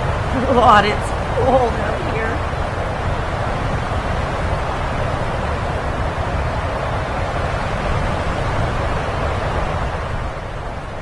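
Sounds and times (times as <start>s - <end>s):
blizzard wind blowing: 0.0s - 11.0s
wind buffeting microphone: 0.0s - 11.0s.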